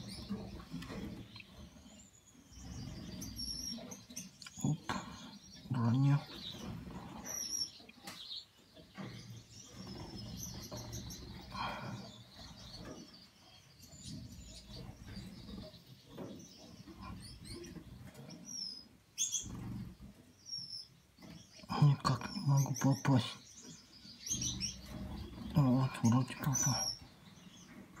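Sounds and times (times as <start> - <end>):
finches chirping: 0.0 - 28.0.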